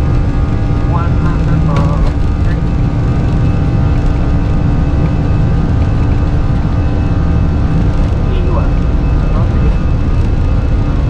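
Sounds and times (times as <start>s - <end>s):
cockpit airflow and engine noise: 0.0s - 11.0s
steady tonal hum: 0.0s - 11.0s.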